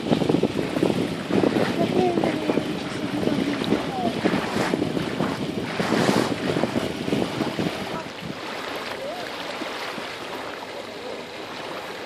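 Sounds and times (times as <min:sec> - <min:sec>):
wind buffeting microphone: 0:00.0 - 0:10.6
water rushing past boat: 0:00.0 - 0:12.0.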